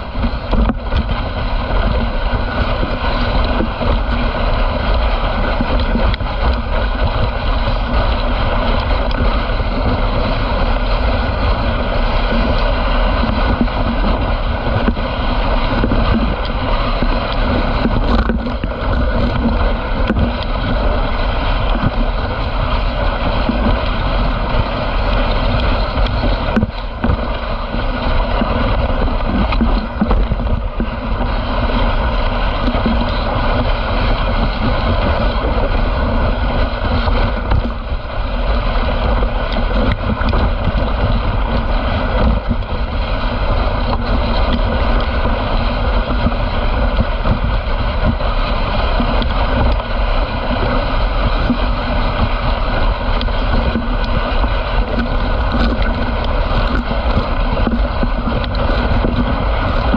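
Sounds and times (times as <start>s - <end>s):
sled runners scraping snow: 0.0s - 59.9s
wind on microphone: 0.0s - 59.9s.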